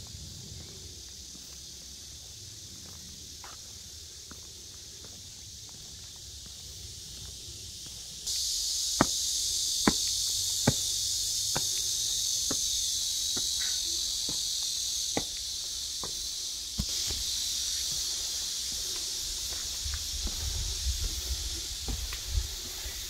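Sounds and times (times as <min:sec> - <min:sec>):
cicadas droning: 0:00.0 - 0:23.0
footsteps on stone paving: 0:01.3 - 0:08.3, 0:08.9 - 0:22.8.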